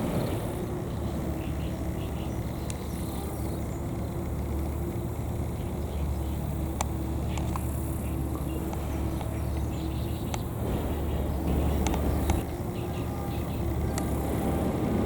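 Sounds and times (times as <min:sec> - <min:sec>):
faint clicks: 0:00.0 - 0:12.6, 0:13.5 - 0:14.3
vehicle engine running: 0:00.0 - 0:15.0.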